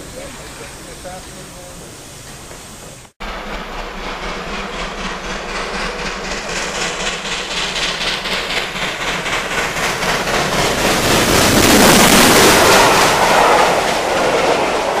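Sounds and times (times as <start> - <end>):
train passing close by: 0.0 - 15.0.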